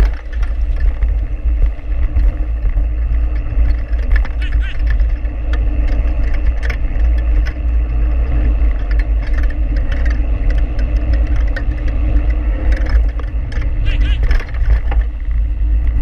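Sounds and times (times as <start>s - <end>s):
bike ticks and rattles: 0.0s - 16.0s
tyres on gravel: 0.0s - 16.0s
wind on microphone: 0.0s - 16.0s.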